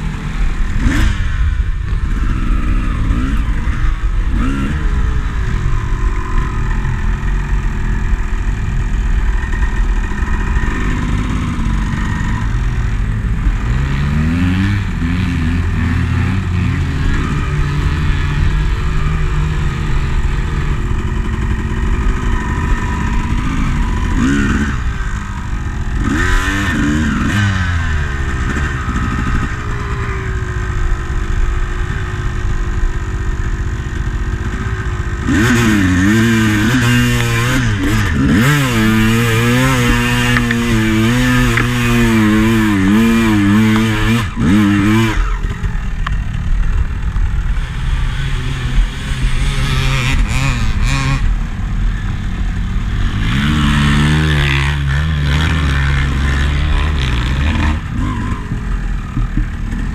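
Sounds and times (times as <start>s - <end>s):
dirt bike engine revving: 0.0s - 59.9s
other dirt bike engines: 0.0s - 59.9s.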